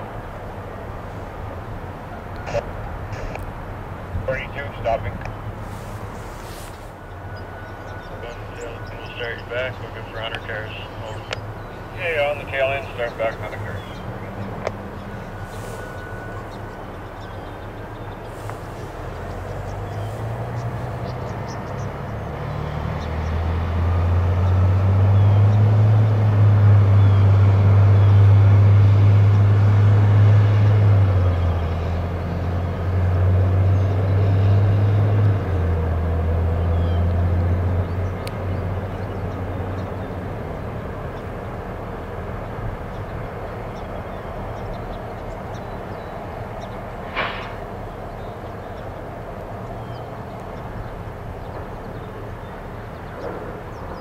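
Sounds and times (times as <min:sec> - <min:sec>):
diesel locomotive engine working: 0:00.0 - 0:54.0.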